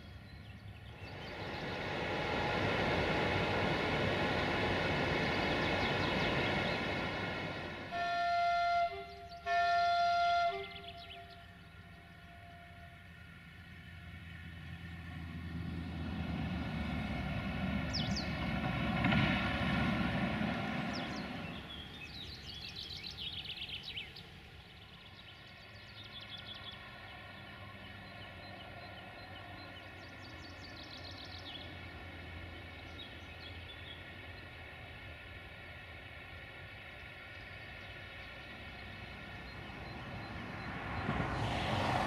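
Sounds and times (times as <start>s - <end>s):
songbirds chirping: 0.0s - 2.5s, 3.6s - 8.0s, 8.8s - 16.1s, 17.8s - 19.1s, 20.6s - 42.0s
distant train rumble: 0.0s - 42.0s.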